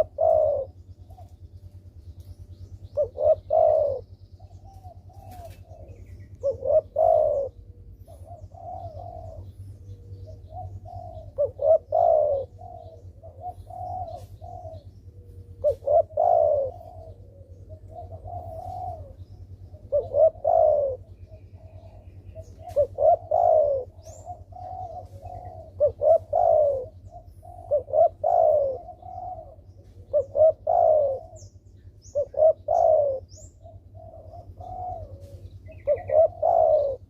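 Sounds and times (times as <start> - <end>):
dove cooing: 0.0 - 37.0
faint steady low hum: 0.0 - 37.0.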